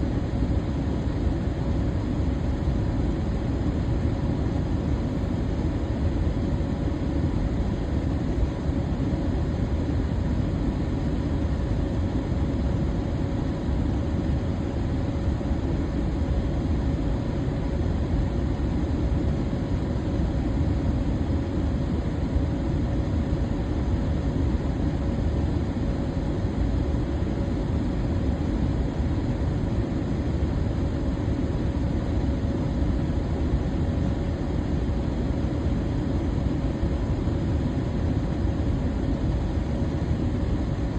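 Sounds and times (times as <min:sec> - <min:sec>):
electric fan running: 0:00.0 - 0:40.9.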